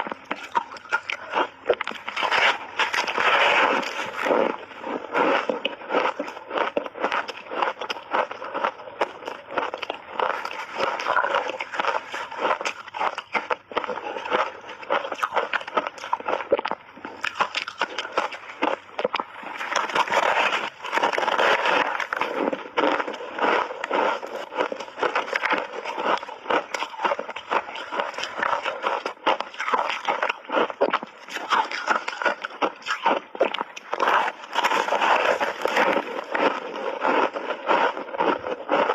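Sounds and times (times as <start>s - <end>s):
crunchy ice cake chewing: 0.0s - 38.9s.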